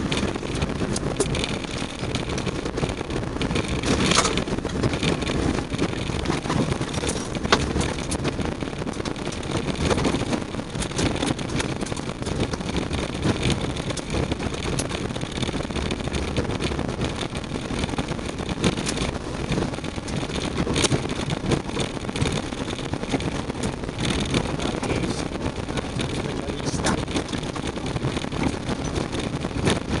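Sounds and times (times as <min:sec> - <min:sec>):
vehicle engine and tyre noise: 0:00.0 - 0:30.0.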